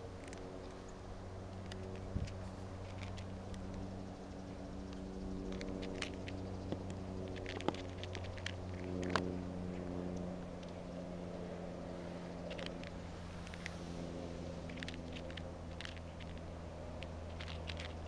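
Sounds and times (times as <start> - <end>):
steady low hum: 0.0 - 18.0
cat chewing: 1.5 - 10.8, 12.4 - 18.0.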